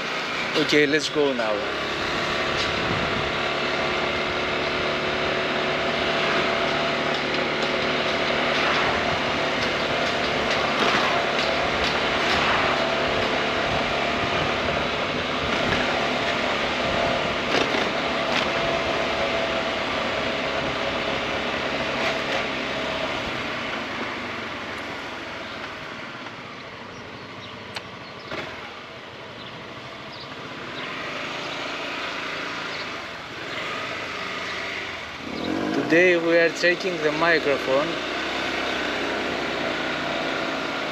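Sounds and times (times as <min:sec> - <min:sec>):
wind and road noise: 0:00.0 - 0:40.9
scooter engine running: 0:01.6 - 0:40.9.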